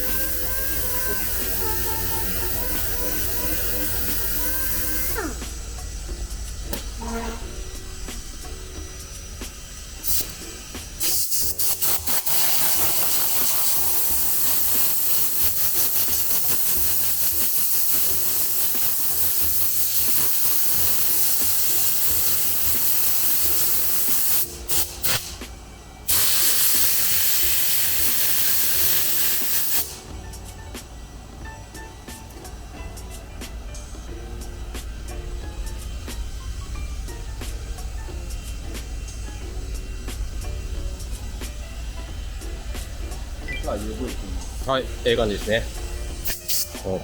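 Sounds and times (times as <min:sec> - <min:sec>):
compressed air hissing from air tool: 0:00.0 - 0:47.0.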